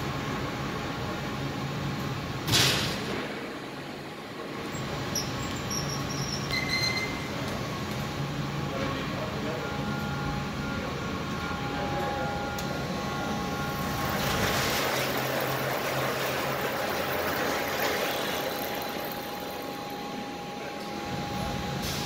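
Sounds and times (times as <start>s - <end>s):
machine hum with whine: 0.0s - 22.0s.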